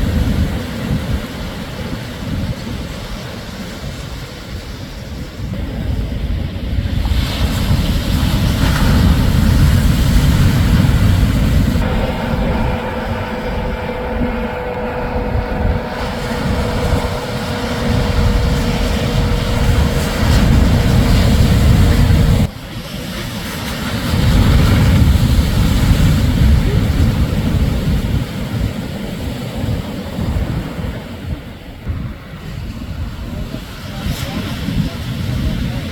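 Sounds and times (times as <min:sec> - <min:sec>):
engine-like drone: 0:00.0 - 0:34.4
surf breaking: 0:00.0 - 0:35.9
wind buffeting microphone: 0:00.0 - 0:35.9.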